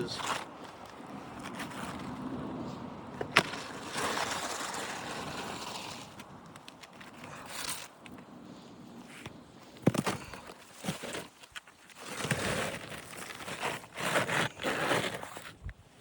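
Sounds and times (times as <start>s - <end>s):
rough scraping of shingles: 0.0s - 16.0s.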